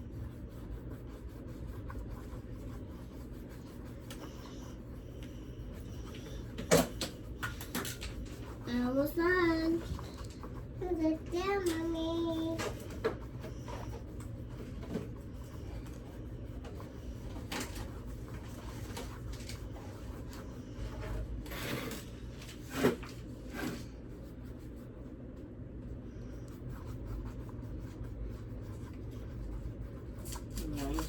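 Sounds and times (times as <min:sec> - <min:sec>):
brush rubbing and handling noises: 0:00.0 - 0:25.4, 0:26.5 - 0:31.0
low steady hum: 0:00.0 - 0:31.0.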